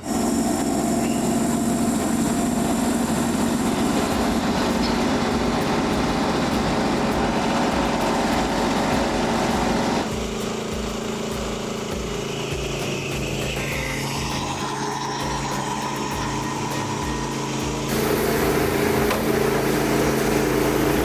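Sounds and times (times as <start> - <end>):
band saw blade cutting log: 0.0 - 21.0
gas engine running: 0.0 - 21.0.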